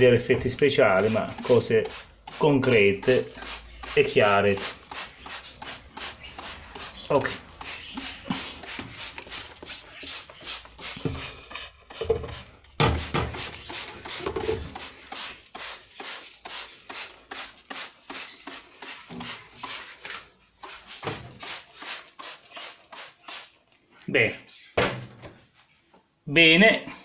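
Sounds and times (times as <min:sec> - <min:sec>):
spray bottle squirting: 0:00.6 - 0:23.8.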